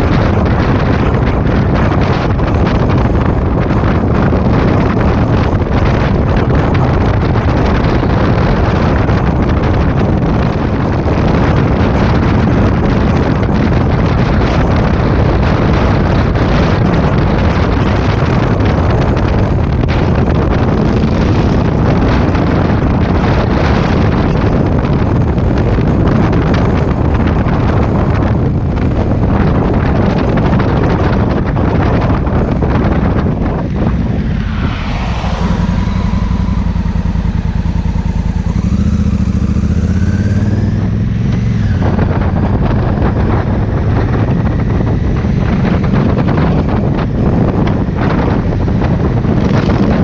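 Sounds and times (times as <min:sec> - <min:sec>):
motorcycle engine running: 0:00.0 - 0:50.0
wind buffeting microphone: 0:00.0 - 0:50.0.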